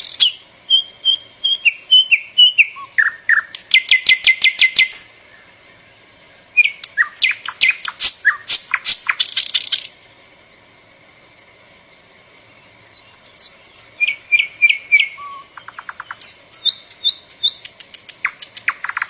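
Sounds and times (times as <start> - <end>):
mockingbird singing: 0.0 - 10.0, 12.4 - 19.0.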